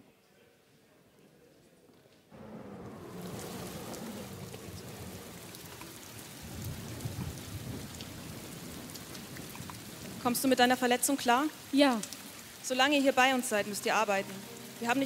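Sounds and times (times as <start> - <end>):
rain hissing: 2.4 - 15.0
thunder rumbling: 2.4 - 15.0
rain drop ticks: 2.6 - 15.0.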